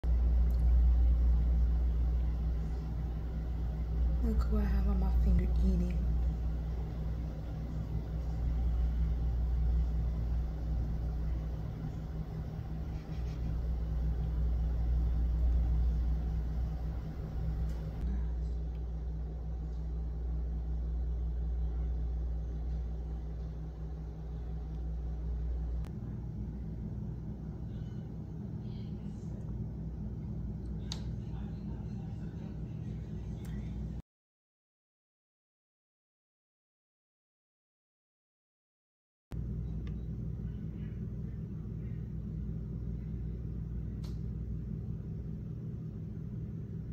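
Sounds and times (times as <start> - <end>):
low background rumble: 0.0 - 34.0, 39.3 - 46.9.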